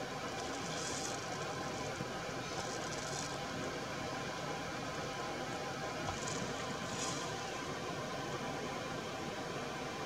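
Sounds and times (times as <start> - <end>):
river water flowing over stones: 0.0 - 8.9.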